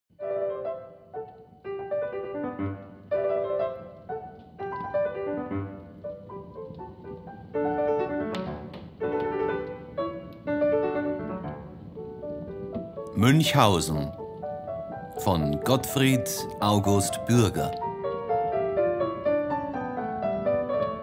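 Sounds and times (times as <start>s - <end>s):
slow piano music: 0.1s - 21.0s.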